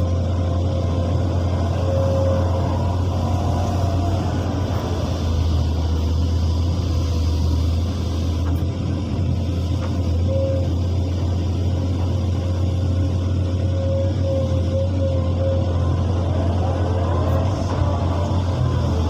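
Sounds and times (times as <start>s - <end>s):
excavator engine drone: 0.0s - 19.0s
thin steady whine: 0.0s - 19.0s.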